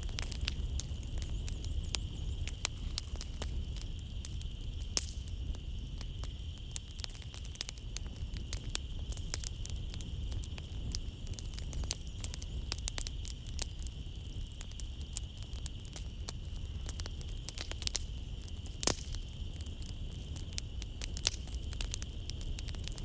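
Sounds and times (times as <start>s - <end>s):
night insects chirring: 0.0s - 23.0s
wood fire crackling and popping: 0.0s - 23.0s.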